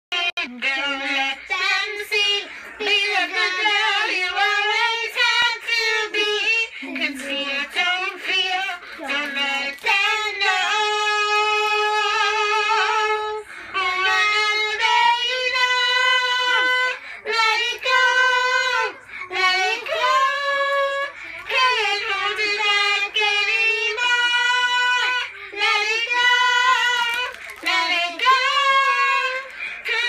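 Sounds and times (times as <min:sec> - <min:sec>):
girls singing: 0:00.1 - 0:30.0.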